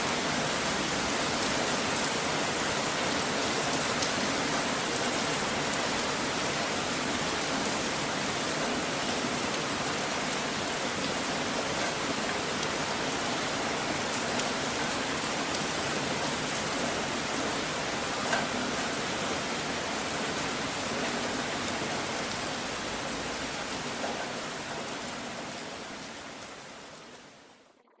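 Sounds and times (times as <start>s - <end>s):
steady rain hiss: 0.0s - 27.7s.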